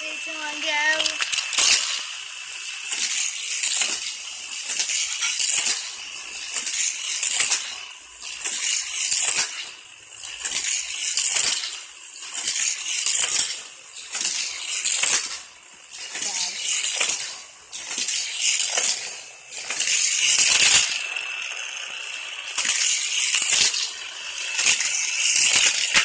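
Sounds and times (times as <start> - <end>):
toy cars clattering on plastic track: 0.0 - 26.0.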